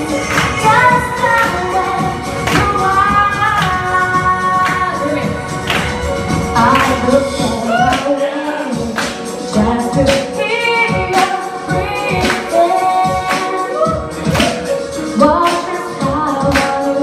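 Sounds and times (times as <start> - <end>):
backing track: 0.0 - 17.0
woman singing into a microphone: 0.0 - 17.0.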